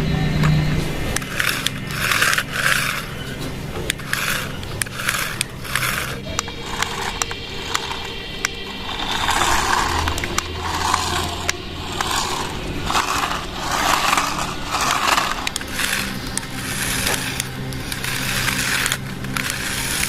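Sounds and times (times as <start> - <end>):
toy car rolling and scraping: 0.0 - 20.0
sharp clicks: 0.4 - 20.0.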